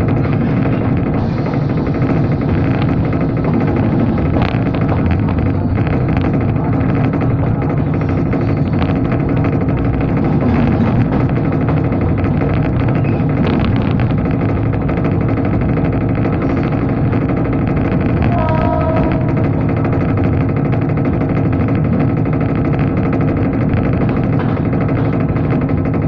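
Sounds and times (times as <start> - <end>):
diesel train engine drone: 0.0 - 26.0
train running noise: 0.0 - 26.0.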